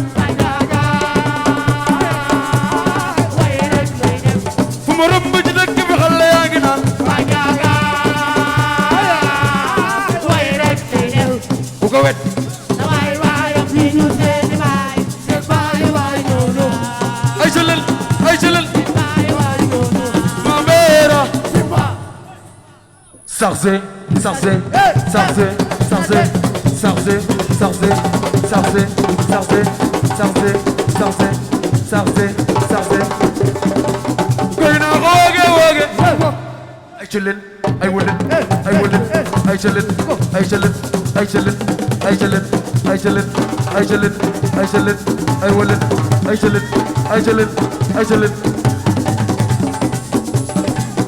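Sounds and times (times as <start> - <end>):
shaken rattles: 0.0 - 21.9, 25.0 - 36.3, 38.3 - 51.0
dense percussion: 0.0 - 22.1, 24.6 - 36.6, 37.7 - 51.0
person singing: 0.0 - 22.3, 24.1 - 33.5, 34.6 - 51.0.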